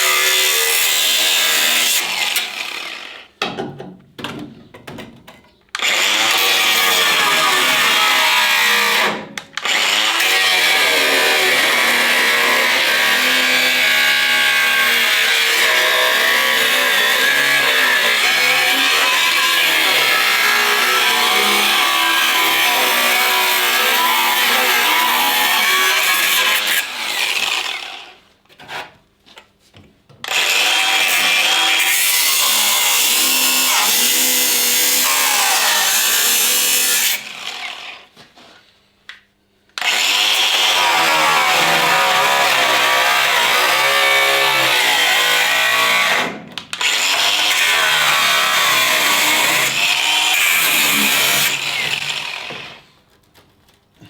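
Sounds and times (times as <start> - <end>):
angle grinder cutting sheet metal: 0.0 - 3.3, 5.8 - 28.1, 30.3 - 38.0, 39.8 - 52.9.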